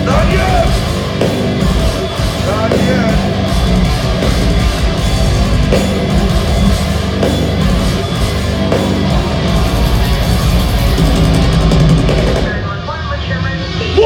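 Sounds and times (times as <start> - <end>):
distorted electric guitars: 0.0 - 14.0
heavy driving drums: 0.0 - 14.0.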